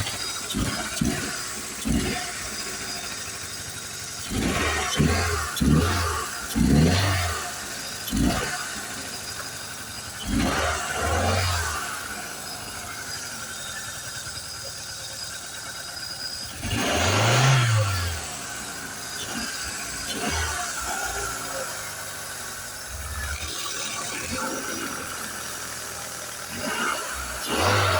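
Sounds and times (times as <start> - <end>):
car engine idling: 0.0 - 27.9
engine throttle blips and revs: 0.0 - 27.9.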